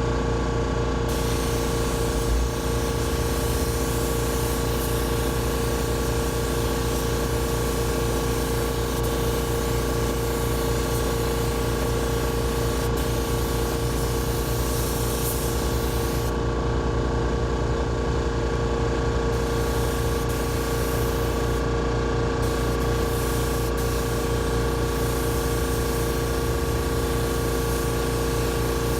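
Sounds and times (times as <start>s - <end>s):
steady machine hum: 0.0s - 28.9s
paint spray gun hissing: 1.1s - 16.4s, 19.4s - 21.7s, 22.4s - 28.9s.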